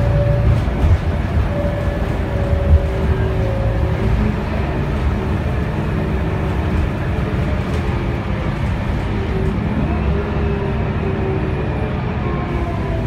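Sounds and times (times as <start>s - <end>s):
bus diesel engine drone: 0.0s - 13.0s
drivetrain and road noise: 0.0s - 13.0s.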